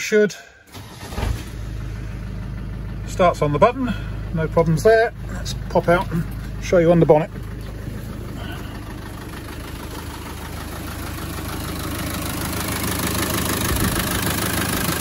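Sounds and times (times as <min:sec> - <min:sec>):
diesel engine idling: 0:00.6 - 0:15.0.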